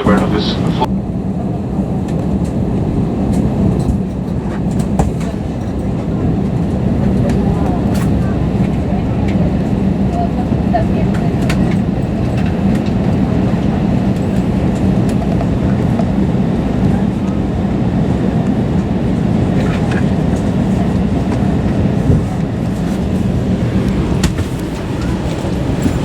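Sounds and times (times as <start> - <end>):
airplane cabin rumble and hum: 0.0 - 26.0.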